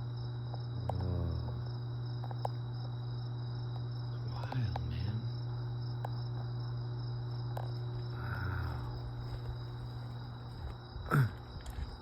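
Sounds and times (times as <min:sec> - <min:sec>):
crickets chirping: 0:00.0 - 0:12.0
low hum: 0:00.0 - 0:12.0.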